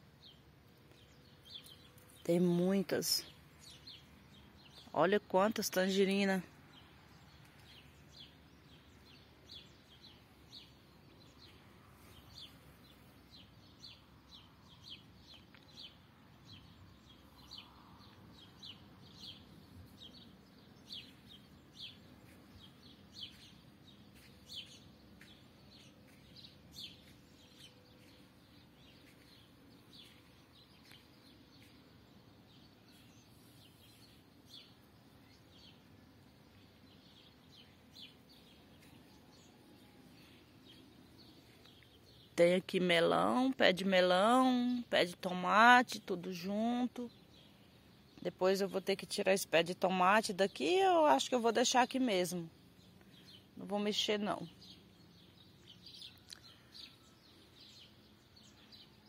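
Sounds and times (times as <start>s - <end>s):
faint low background noise: 0.0s - 59.0s
small bird chirping: 0.2s - 45.4s, 51.6s - 59.0s.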